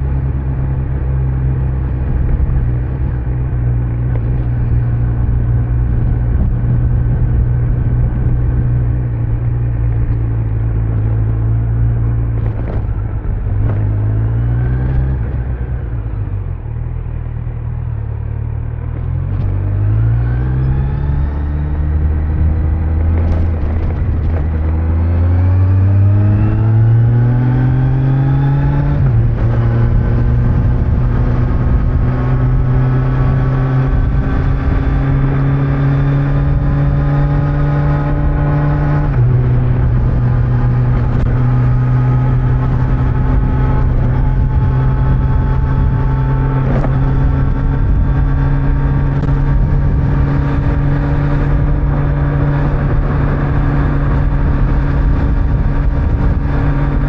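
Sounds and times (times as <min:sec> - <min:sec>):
motorcycle engine accelerating: 0:00.0 - 0:57.0
wind and tyre noise: 0:00.0 - 0:57.0.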